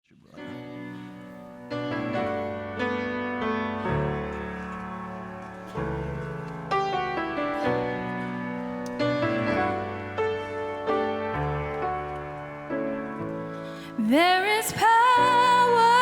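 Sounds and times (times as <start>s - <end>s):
piano chords: 0.2s - 16.0s.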